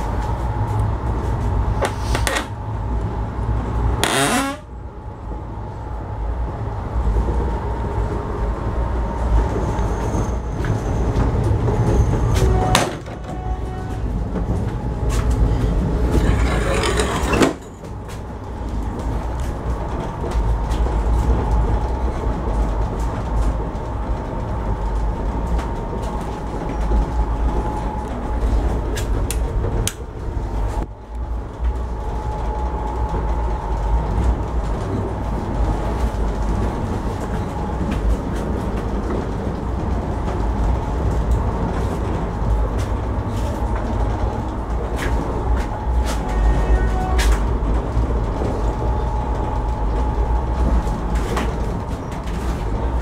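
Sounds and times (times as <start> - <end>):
train coach rumbling on rails: 0.0 - 53.0.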